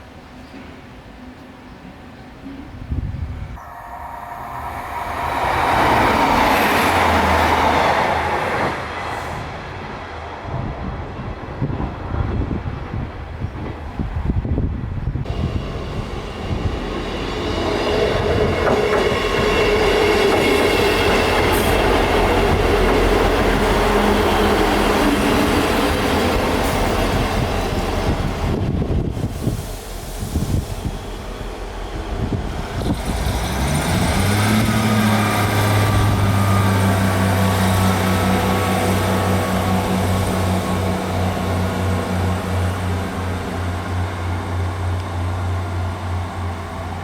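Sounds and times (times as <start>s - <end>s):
train rumbling on rails: 0.0s - 47.0s.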